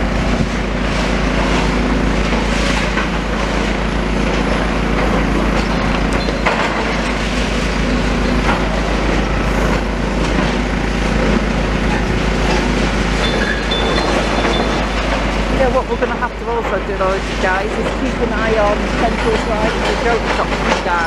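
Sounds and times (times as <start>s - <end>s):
excavator diesel engine running: 0.0s - 21.0s
rubble and timber crunching: 0.0s - 21.0s.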